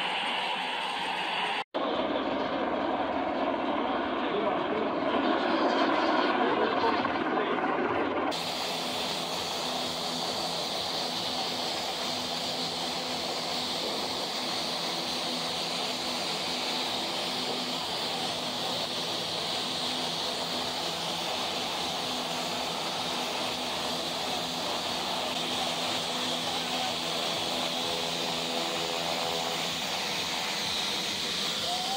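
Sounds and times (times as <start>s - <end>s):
propeller aircraft engines droning: 0.0s - 31.9s.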